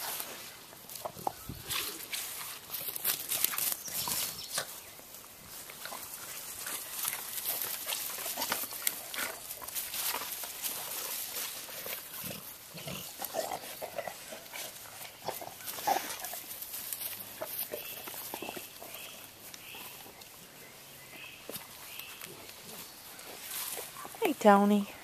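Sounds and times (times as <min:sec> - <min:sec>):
dogs playing: 0:00.0 - 0:24.4
sticks and paws rustling in grass: 0:00.0 - 0:25.0.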